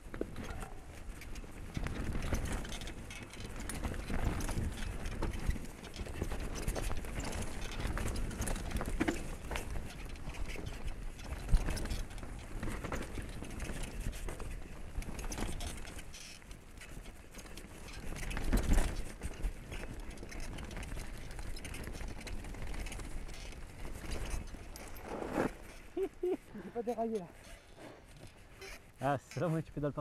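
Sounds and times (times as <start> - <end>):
bike rattling over stones: 0.0 - 26.2.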